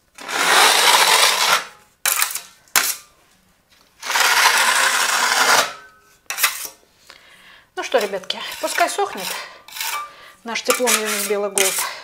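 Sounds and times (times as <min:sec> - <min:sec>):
plastering blade scraping wet plaster: 0:00.2 - 0:03.0, 0:04.0 - 0:06.8, 0:07.9 - 0:12.0.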